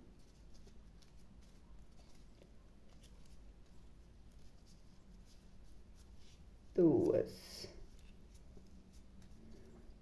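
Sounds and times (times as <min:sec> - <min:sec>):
ribbon rustling: 0:00.0 - 0:10.0.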